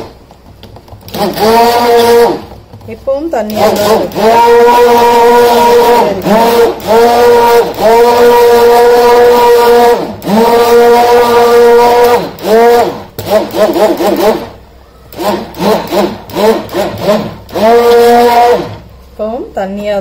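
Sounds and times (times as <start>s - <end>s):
immersion blender motor whining: 1.1s - 2.5s, 3.5s - 18.9s.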